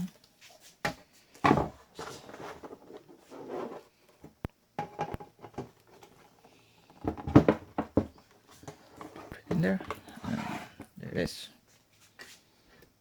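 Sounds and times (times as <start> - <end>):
plastic parts scraping and knocking: 0.0 - 11.0.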